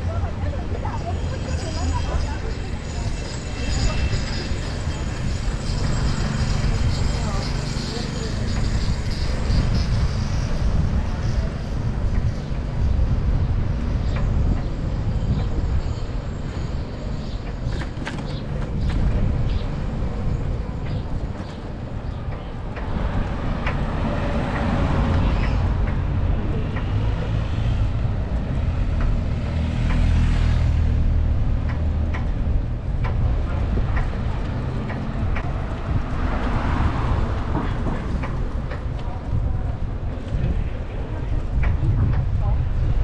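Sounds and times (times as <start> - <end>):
city traffic: 0.0 - 43.0
wind and road rumble: 0.0 - 43.0.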